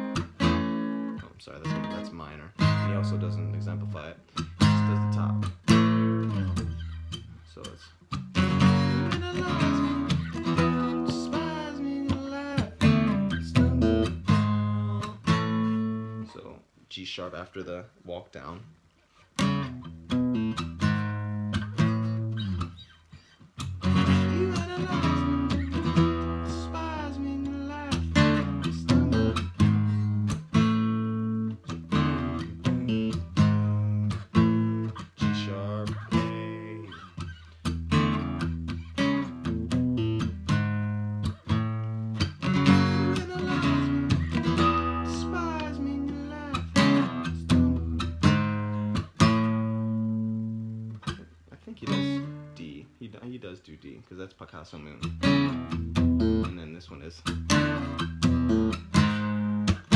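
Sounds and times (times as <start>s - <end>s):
acoustic guitar strumming: 0.0s - 16.5s, 19.1s - 52.9s, 55.0s - 56.6s, 57.2s - 59.9s.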